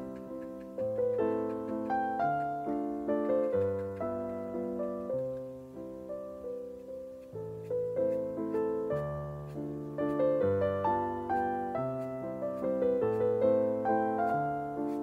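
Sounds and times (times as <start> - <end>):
soft solo piano: 0.0 - 15.0.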